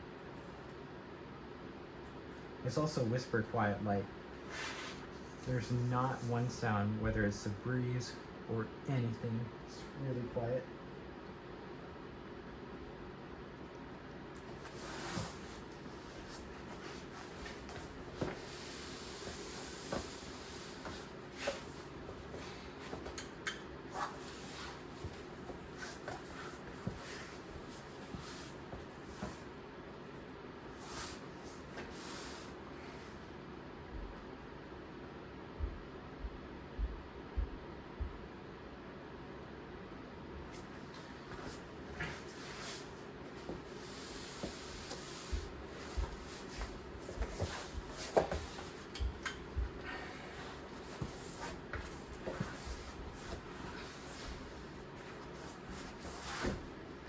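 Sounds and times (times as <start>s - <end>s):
ceiling fan humming: 0.0s - 57.0s.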